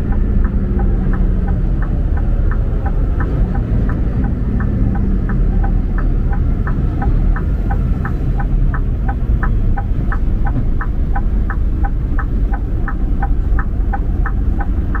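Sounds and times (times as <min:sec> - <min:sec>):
car road rumble: 0:00.0 - 0:15.0
light ticking: 0:00.0 - 0:15.0.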